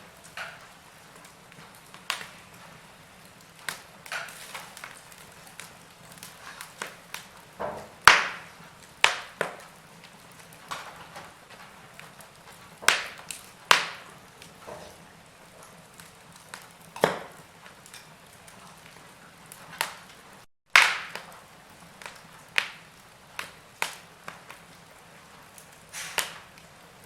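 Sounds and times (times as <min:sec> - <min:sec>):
log fire crackling: 0:00.0 - 0:27.0.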